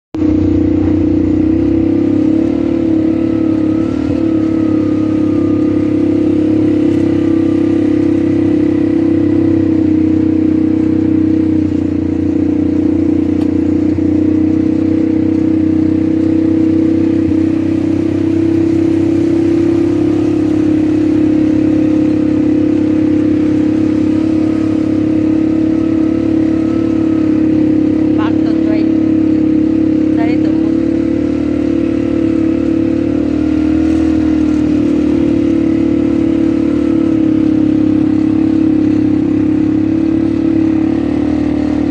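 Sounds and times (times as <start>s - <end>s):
atv engine running: 0.2s - 41.9s.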